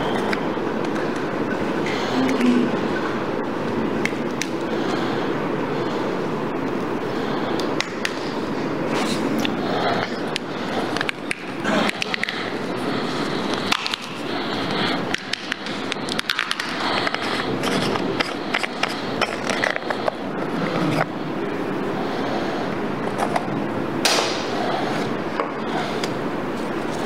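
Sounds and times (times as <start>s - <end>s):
room noise: 0.0s - 27.0s.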